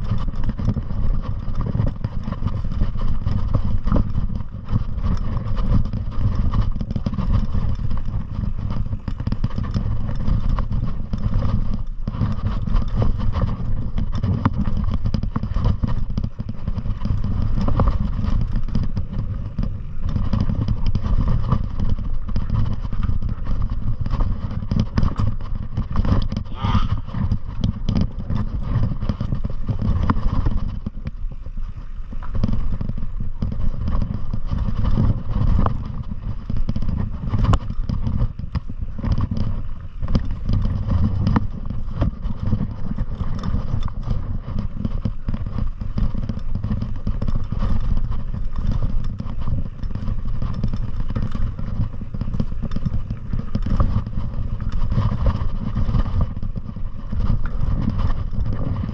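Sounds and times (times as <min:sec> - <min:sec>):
low wind rumble: 0:00.0 - 0:58.9.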